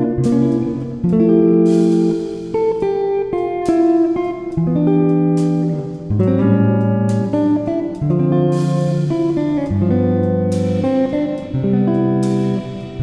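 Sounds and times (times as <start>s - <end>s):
plucked guitar notes: 0.0s - 13.0s.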